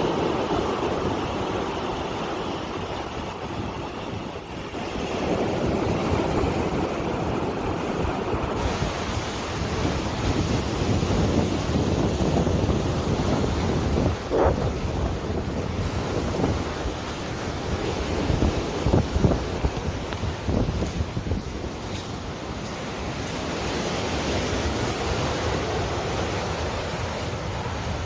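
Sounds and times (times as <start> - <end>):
sea surf washing in: 0.0 - 28.0
wind buffeting microphone: 0.0 - 28.0.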